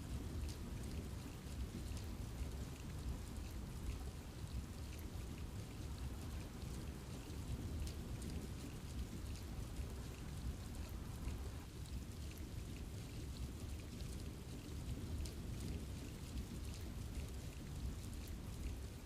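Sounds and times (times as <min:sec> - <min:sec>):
rain falling in forest: 0:00.0 - 0:19.0.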